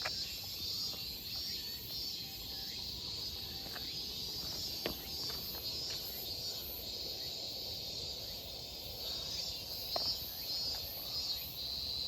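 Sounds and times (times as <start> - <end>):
insect chorus drone: 0.0 - 12.0
very high pulsing insect drone: 0.0 - 12.0.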